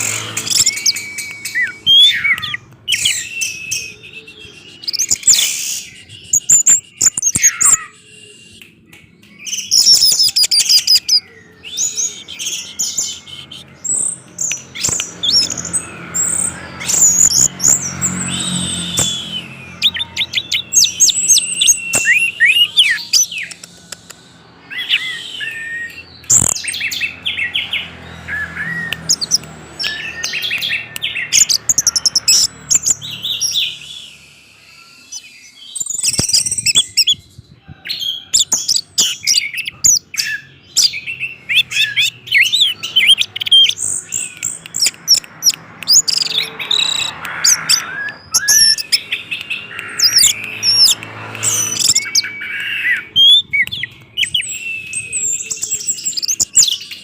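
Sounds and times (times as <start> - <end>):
thrush singing chirps and whistles: 0.0 - 57.0.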